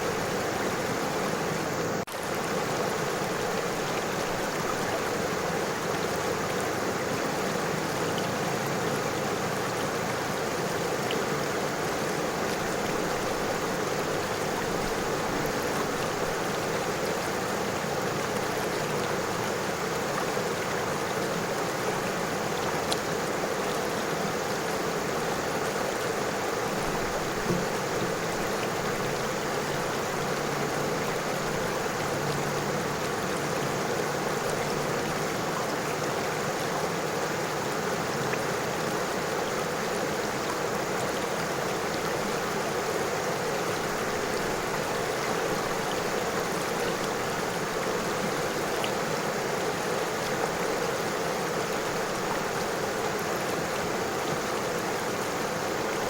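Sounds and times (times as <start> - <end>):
river flowing over stones: 0.0 - 56.0
water splashes and trickles: 0.0 - 56.0.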